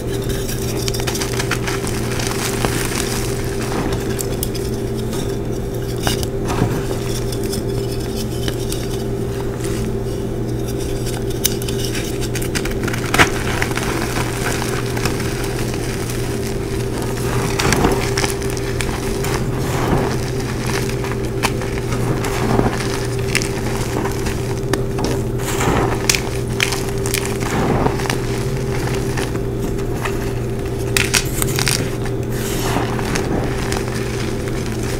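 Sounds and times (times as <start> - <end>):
chalk crunching and crackling: 0.0 - 34.9
low hum: 0.0 - 34.9.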